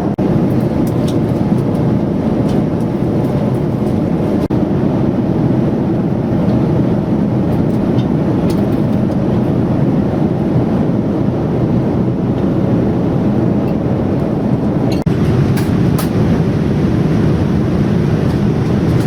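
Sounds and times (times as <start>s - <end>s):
airliner cabin engine rush: 0.0s - 19.0s.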